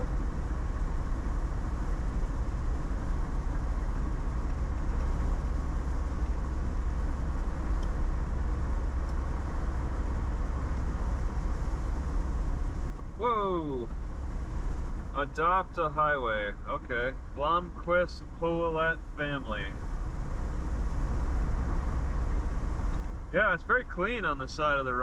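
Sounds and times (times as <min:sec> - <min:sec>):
car interior road rumble: 0:00.0 - 0:25.0.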